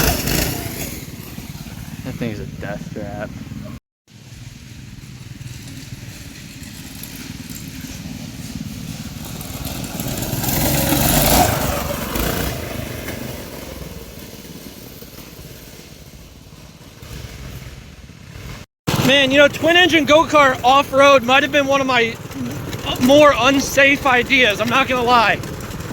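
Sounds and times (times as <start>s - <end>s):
go-kart engines passing by: 0.0s - 25.9s.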